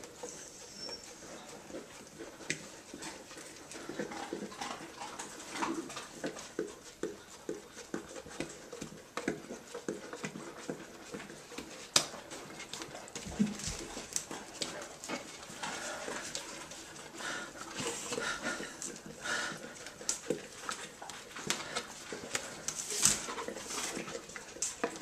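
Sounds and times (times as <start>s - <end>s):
dog licking wet laps: 1.2s - 25.0s.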